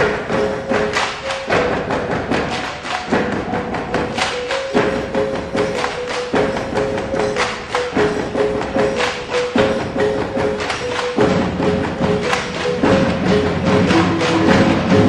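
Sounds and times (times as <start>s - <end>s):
percussion-led music: 0.0s - 15.0s.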